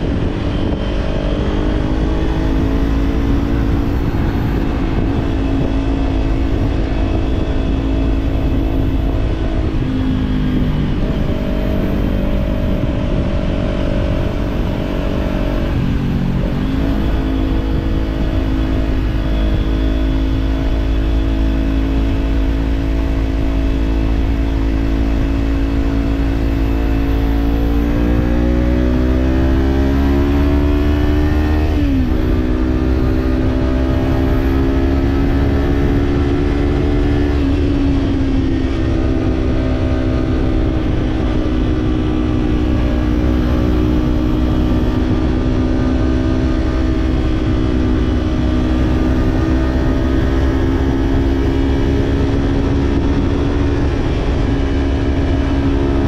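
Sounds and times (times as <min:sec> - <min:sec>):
low wind rumble: 0:00.0 - 0:56.0
motorcycle engine: 0:00.0 - 0:56.0.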